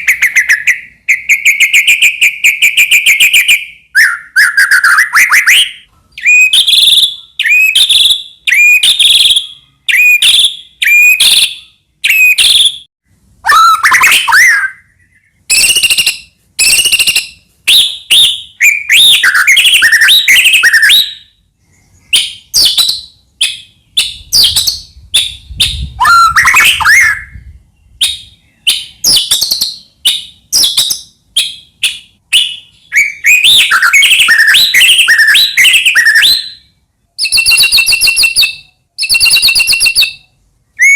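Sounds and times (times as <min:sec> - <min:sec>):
bird singing whistled trills: 0:00.0 - 0:40.9.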